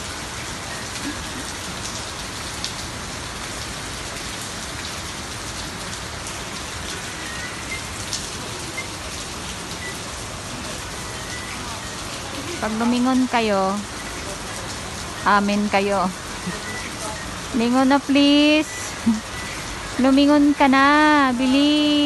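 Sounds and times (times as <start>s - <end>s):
rain falling: 0.0s - 22.0s
water drips: 3.6s - 22.0s.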